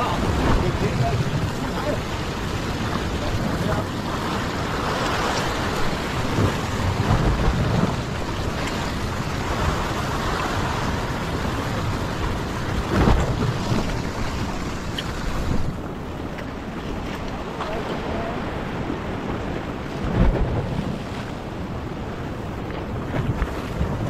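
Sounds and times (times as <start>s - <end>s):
surf washing against rocks: 0.0s - 24.0s
wind rumbling on microphone: 0.0s - 24.0s.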